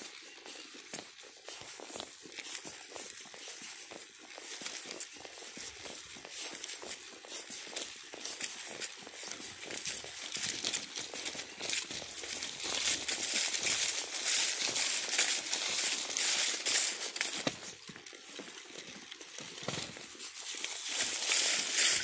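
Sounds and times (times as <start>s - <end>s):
footsteps crunching dry leaves: 0.0s - 22.0s.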